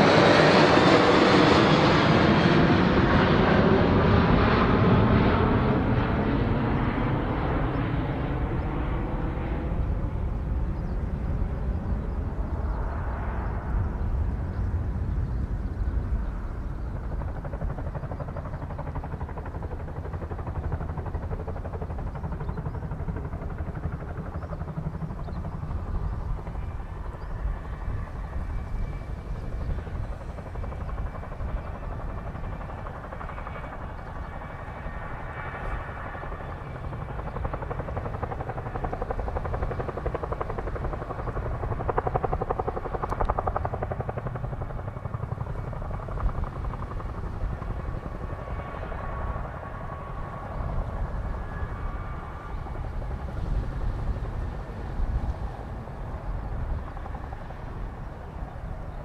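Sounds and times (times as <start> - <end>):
faint turbine whine: 0.0 - 59.0
helicopter rotors chopping: 0.0 - 59.0.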